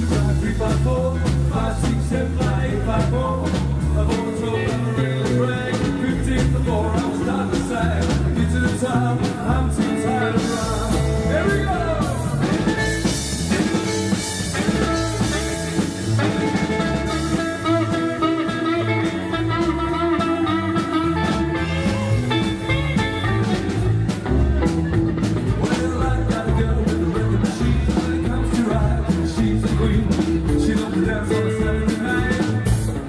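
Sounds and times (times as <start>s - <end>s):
bass: 0.0s - 33.0s
steady drum beat: 0.0s - 33.0s
electric guitar lead: 3.7s - 33.0s.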